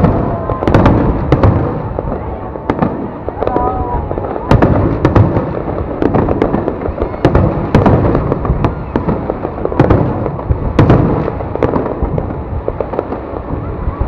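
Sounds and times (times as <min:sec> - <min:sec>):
fireworks bangs: 0:00.0 - 0:14.0
rumble and crackle of explosions: 0:00.0 - 0:14.0.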